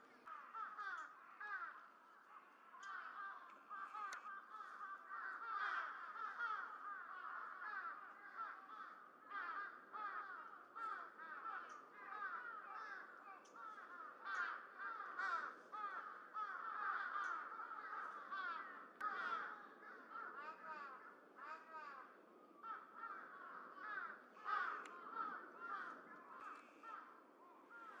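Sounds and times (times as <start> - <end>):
flock of birds calling: 0.0 - 28.0.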